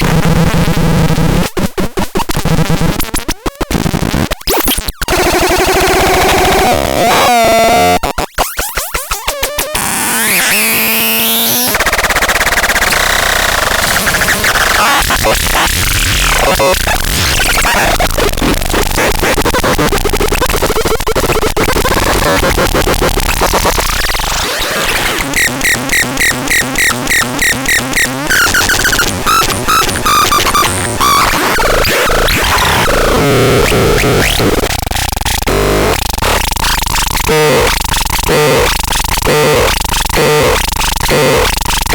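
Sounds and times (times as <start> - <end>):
harsh glitchy electronic noise: 2.2 - 41.9.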